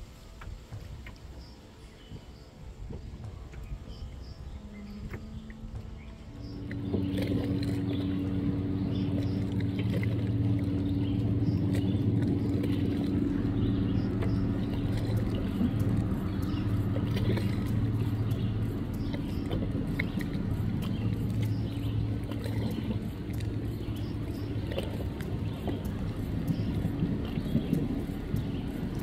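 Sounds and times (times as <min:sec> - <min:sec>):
boat motor running: 0:00.0 - 0:29.0.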